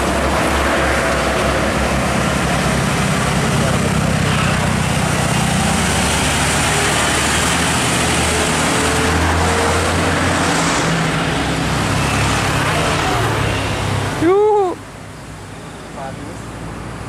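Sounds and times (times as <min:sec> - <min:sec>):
diesel bus engine passing: 0:00.0 - 0:17.0
tyre and traffic noise: 0:00.0 - 0:17.0.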